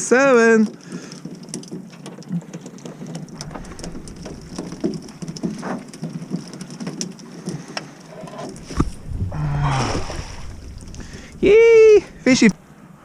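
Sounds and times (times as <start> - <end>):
fish flapping and slapping: 0.5 - 12.6.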